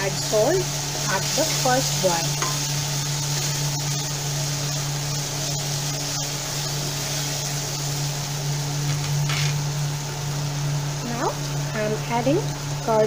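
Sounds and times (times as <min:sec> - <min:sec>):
masala sizzling in a pan: 0:00.0 - 0:13.0
steady low hum: 0:00.0 - 0:13.0.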